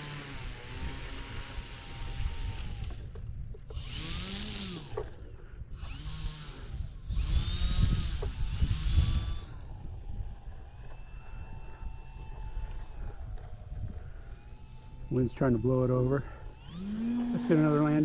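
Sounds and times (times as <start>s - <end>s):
electric motor and propeller: 0.0s - 18.0s
wind buffeting microphone: 0.6s - 18.0s.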